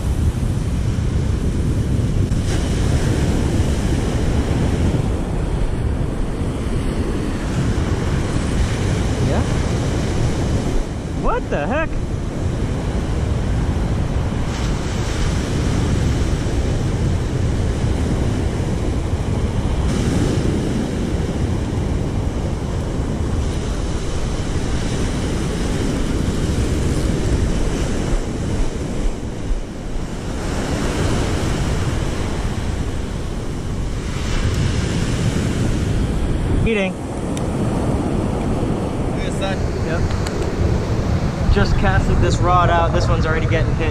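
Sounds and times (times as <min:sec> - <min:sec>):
waves breaking on beach: 0:00.0 - 0:43.9
wind buffeting microphone: 0:00.0 - 0:43.9.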